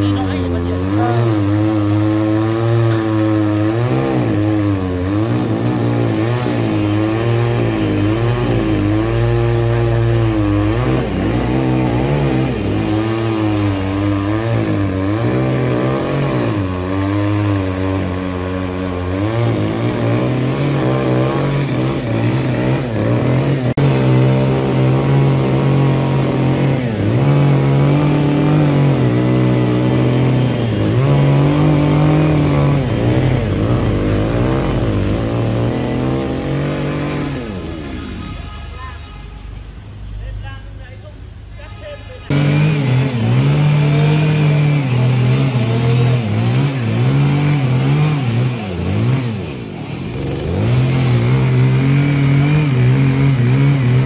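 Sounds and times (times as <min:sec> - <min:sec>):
chainsaw cutting wood: 0:00.0 - 0:38.3, 0:42.3 - 0:54.0.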